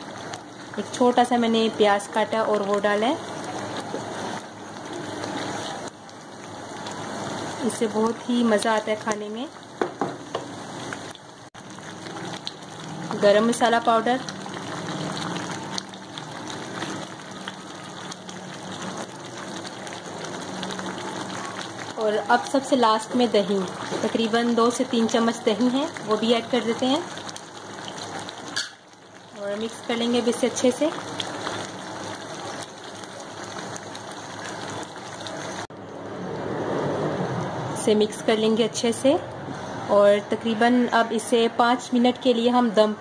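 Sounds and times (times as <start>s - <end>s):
curry bubbling in a pan: 0.0s - 37.4s.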